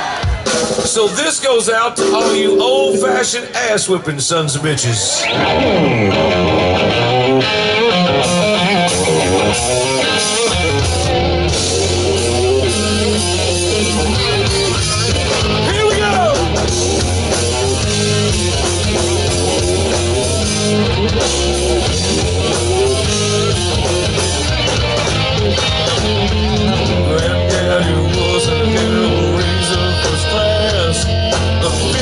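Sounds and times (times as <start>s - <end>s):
drum kit: 0.0s - 3.4s, 7.9s - 32.0s
distorted electric guitars: 0.0s - 3.8s, 4.9s - 32.0s
bass guitar: 1.9s - 3.5s, 5.2s - 32.0s.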